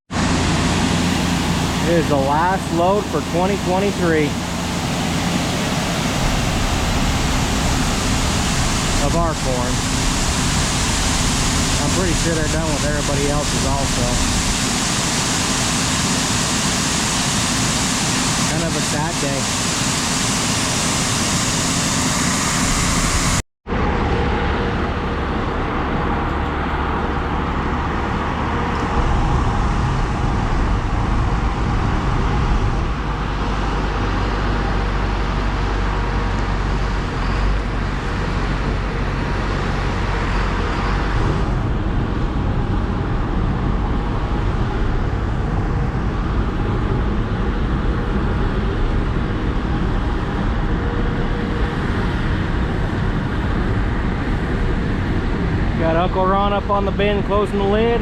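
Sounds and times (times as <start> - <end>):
tractor engine running: 0.1 - 58.0.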